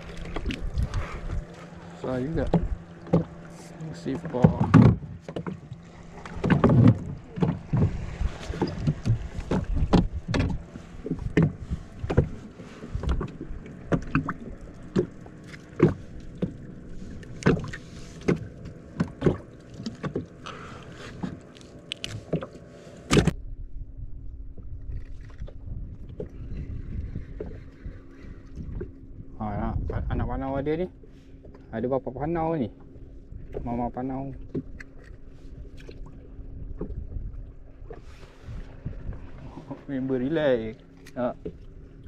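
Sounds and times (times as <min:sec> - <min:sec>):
steady low rumble: 0:00.0 - 0:22.3, 0:22.9 - 0:42.0
knocks and clicks in boat: 0:00.0 - 0:23.4, 0:24.5 - 0:42.0.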